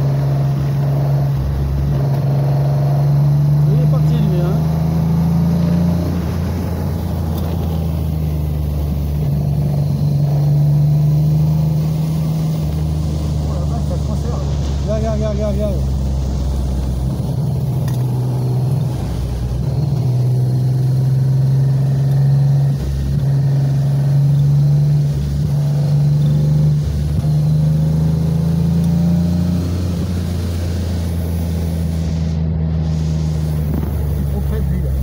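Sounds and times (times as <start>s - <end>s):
car engine revving from inside cabin: 0.0s - 35.0s.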